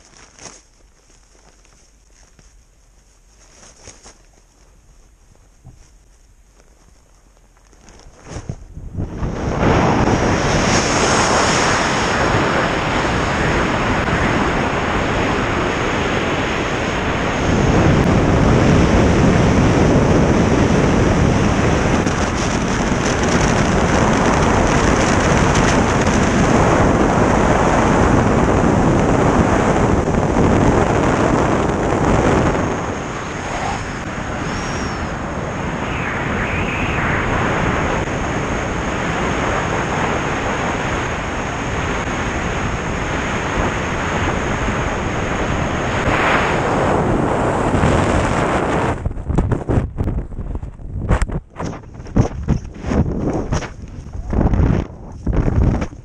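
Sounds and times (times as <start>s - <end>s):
wind roar on microphone: 7.9s - 56.0s.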